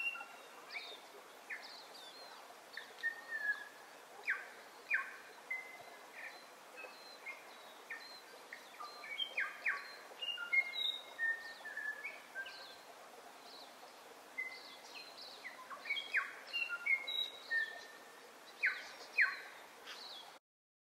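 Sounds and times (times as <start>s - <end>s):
steady background hiss: 0.0s - 20.4s
birds chirping and whistling: 1.5s - 12.8s, 14.4s - 20.2s.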